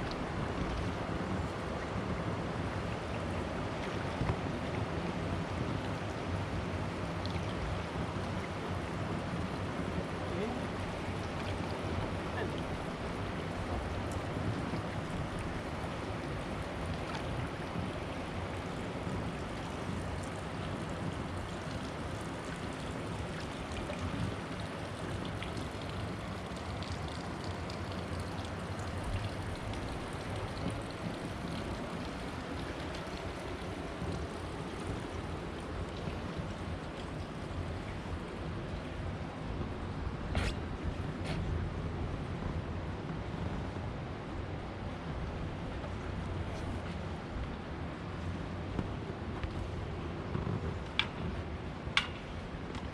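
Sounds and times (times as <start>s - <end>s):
rushing water: 0.0s - 52.9s
wind: 0.0s - 52.9s.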